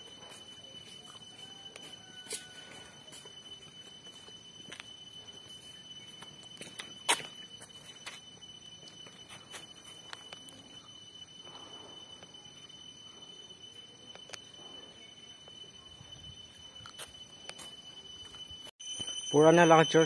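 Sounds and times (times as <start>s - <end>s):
steady high-pitched tone: 0.0s - 20.0s.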